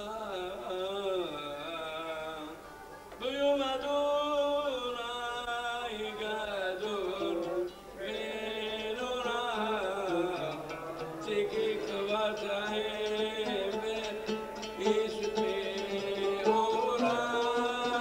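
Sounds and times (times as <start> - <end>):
elderly man singing: 0.0 - 18.0.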